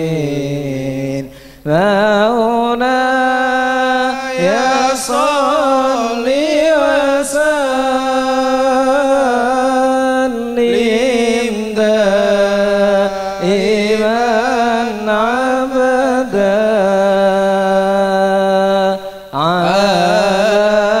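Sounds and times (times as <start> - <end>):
person chanting: 0.0 - 21.0.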